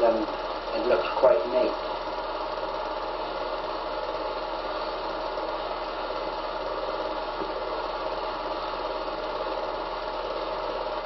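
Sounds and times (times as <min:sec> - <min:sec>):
low constant hum: 0:00.0 - 0:11.0.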